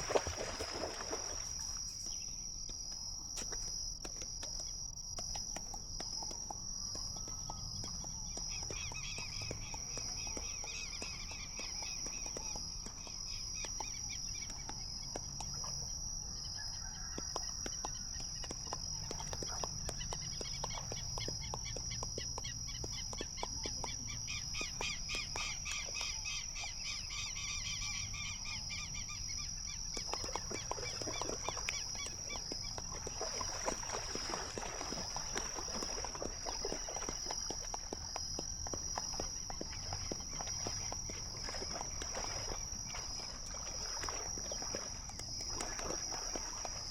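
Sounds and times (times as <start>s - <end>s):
high-pitched insect trill: 0.0s - 46.9s
birds chirping: 6.9s - 16.0s, 16.6s - 46.9s.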